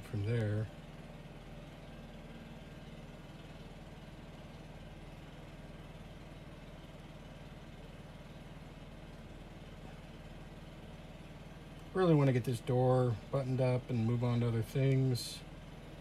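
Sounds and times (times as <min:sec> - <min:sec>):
muffled leaf blower: 0:00.0 - 0:16.0.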